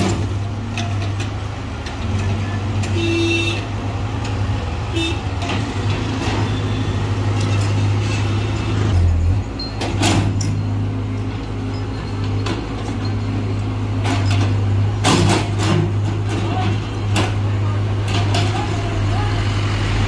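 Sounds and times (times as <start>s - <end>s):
excavator diesel engine: 0.0s - 20.0s.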